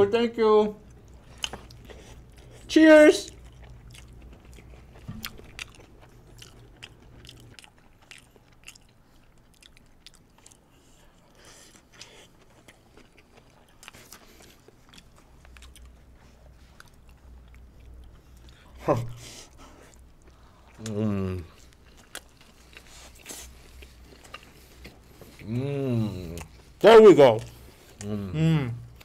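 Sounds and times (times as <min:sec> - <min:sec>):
people chewing with crunches: 0:00.8 - 0:29.0.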